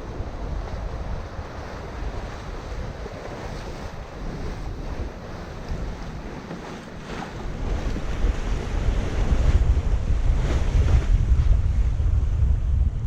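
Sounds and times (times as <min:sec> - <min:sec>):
waves rushing along hull: 0:00.0 - 0:13.0
wind buffeting microphone: 0:00.0 - 0:13.0.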